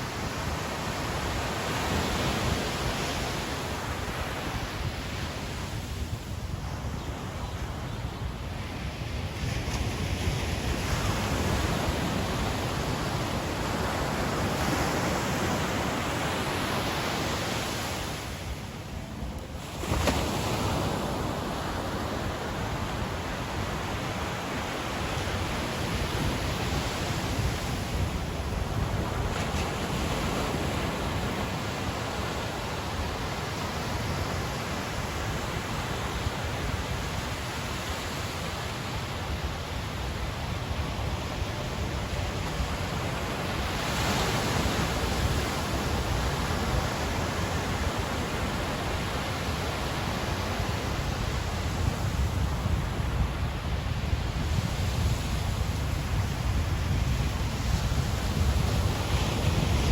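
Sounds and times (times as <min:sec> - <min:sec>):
waves breaking on a beach: 0:00.0 - 0:59.9.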